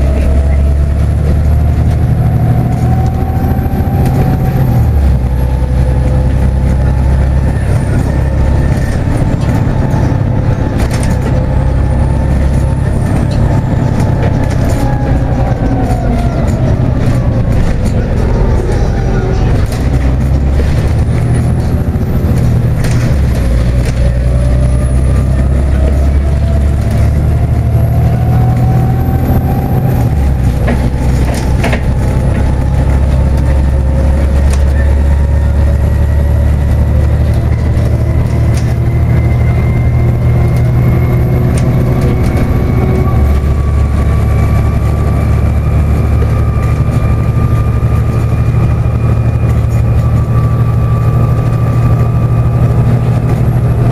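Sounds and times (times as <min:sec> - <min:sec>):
bus engine drone: 0:00.0 - 0:53.9.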